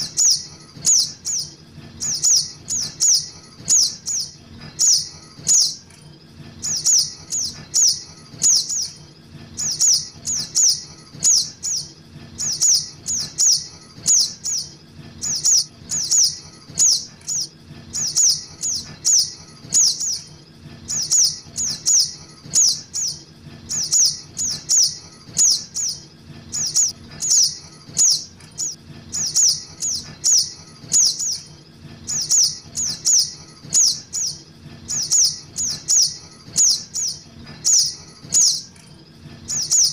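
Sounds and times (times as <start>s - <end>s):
high downward bird chips: 0.0s - 5.8s, 6.5s - 38.7s
faint low hum: 0.0s - 39.9s.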